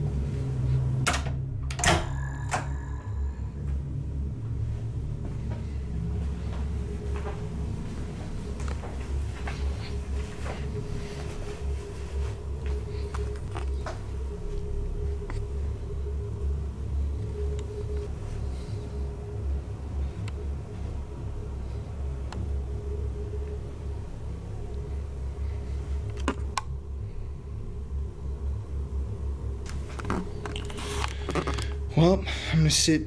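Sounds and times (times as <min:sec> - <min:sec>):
faint constant hum: 0:00.0 - 0:33.0
low rumble: 0:00.0 - 0:33.0.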